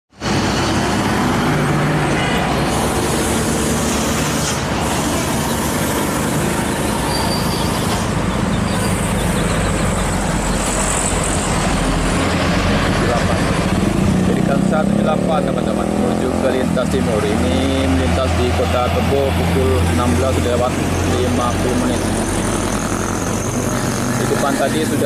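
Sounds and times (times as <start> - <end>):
heavy road traffic passing: 0.1 - 25.0.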